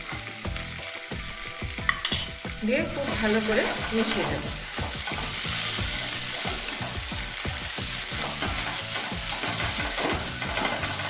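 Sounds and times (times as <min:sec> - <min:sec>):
greens sizzling in a pan: 0:00.0 - 0:11.0.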